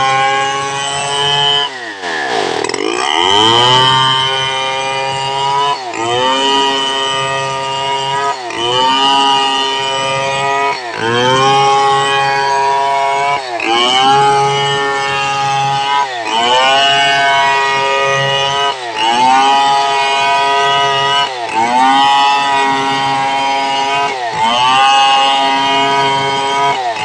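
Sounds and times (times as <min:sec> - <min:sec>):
chainsaw cutting log: 0:00.0 - 0:27.0.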